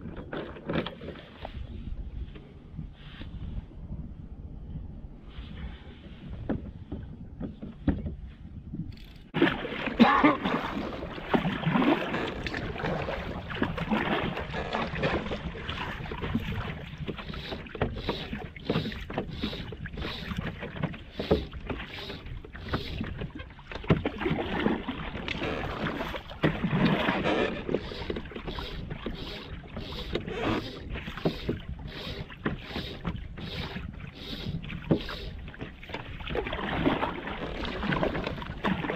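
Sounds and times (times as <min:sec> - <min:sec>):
water splashing against kayak hull: 0:00.0 - 0:03.3, 0:08.9 - 0:38.9.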